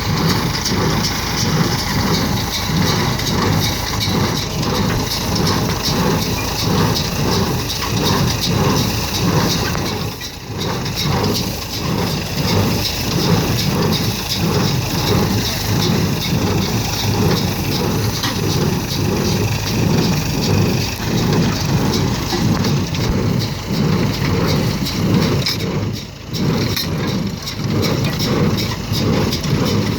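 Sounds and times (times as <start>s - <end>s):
hay baler mechanism beating: 0.0s - 29.9s
tractor engine under load: 0.0s - 29.9s.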